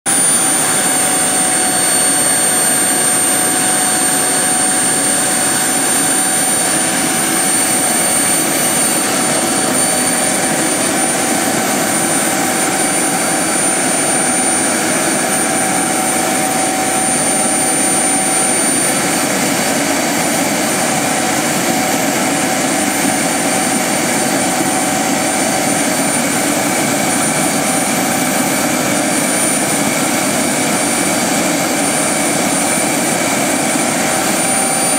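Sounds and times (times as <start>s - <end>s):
model jet turbine engine roaring: 0.0s - 34.9s.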